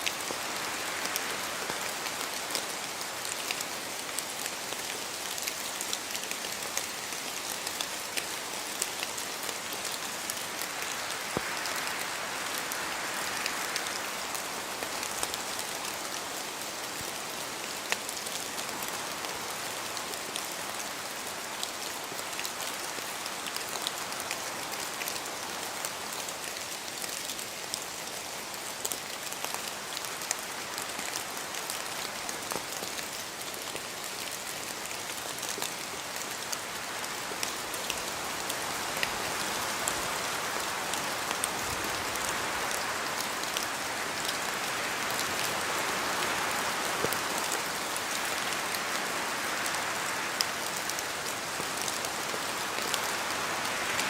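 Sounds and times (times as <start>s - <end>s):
rain in forest: 0.0s - 54.0s.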